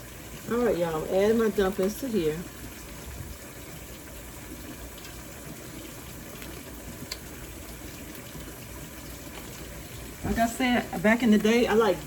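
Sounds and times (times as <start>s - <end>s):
running water hiss: 0.0s - 12.0s.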